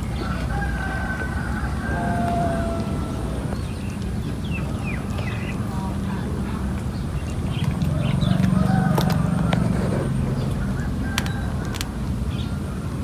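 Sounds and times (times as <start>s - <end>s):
cats eating: 0.0s - 13.0s.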